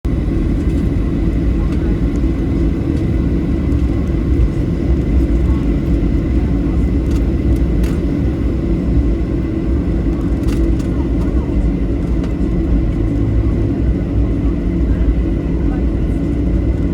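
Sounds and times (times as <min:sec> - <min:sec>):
jet engines rumbling in cabin: 0:00.0 - 0:16.9
faint high engine whine: 0:00.1 - 0:16.9.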